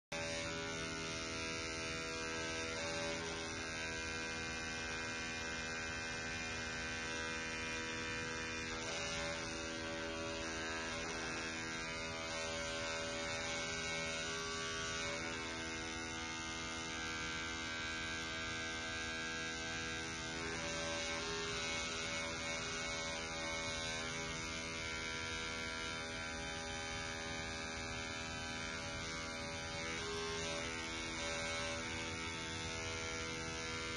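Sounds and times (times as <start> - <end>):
electric toothbrush buzzing: 0.0 - 33.9.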